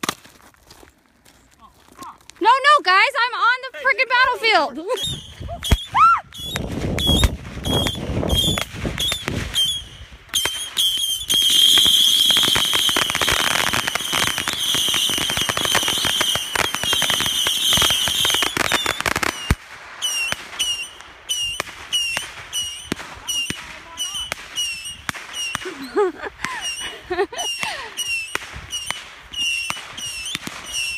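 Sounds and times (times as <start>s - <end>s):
fireworks crackling and popping: 0.0s - 30.9s
whistling fireworks: 4.9s - 30.9s.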